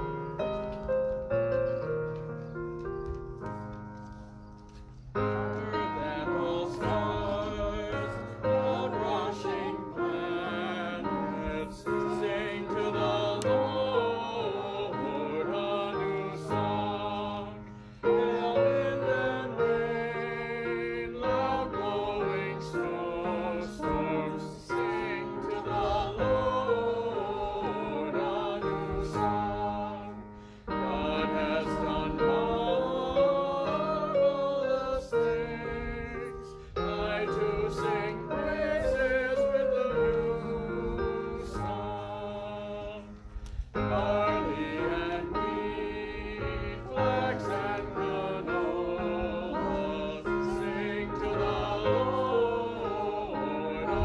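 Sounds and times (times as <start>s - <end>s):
congregation singing a hymn: 0.0s - 2.0s, 2.8s - 54.0s
instrumental accompaniment: 0.0s - 54.0s.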